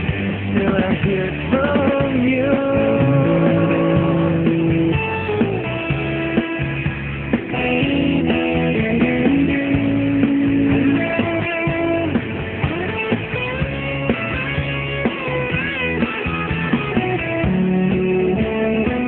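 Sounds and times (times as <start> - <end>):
rock song led by guitar: 0.0 - 19.0.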